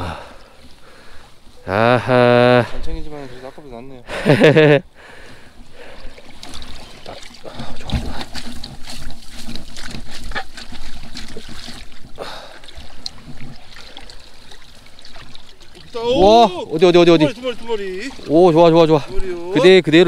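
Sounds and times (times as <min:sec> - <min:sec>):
water splashing and sloshing: 0:00.1 - 0:01.7, 0:02.6 - 0:20.0.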